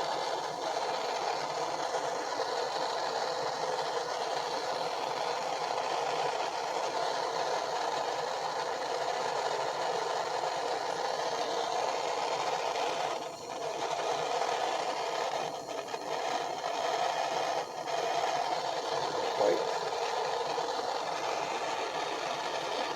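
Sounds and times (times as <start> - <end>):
propane torch flame: 0.0 - 22.9.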